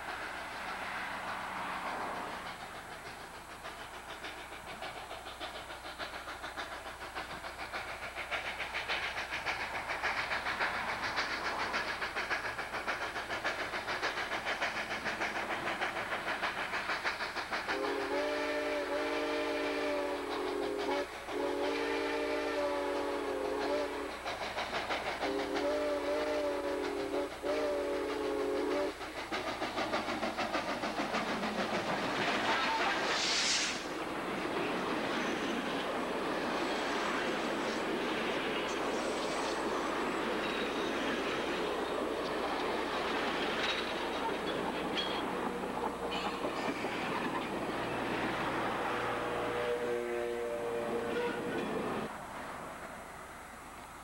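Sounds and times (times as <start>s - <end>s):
steam hiss: 0.0s - 54.0s.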